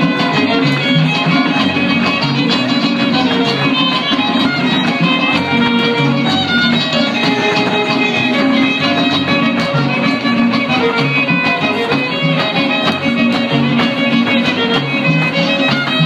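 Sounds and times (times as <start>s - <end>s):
fiddle melody: 0.0s - 16.0s
strummed guitars: 0.0s - 16.0s.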